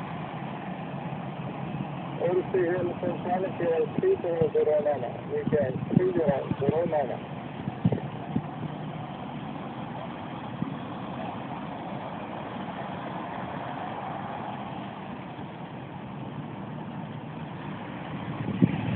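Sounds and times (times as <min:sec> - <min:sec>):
jet airliner engines humming: 0:00.0 - 0:18.9.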